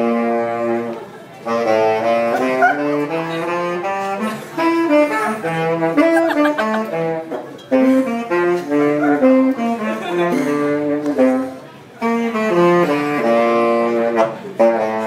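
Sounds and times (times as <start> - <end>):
solo saxophone melody: 0.0 - 15.0.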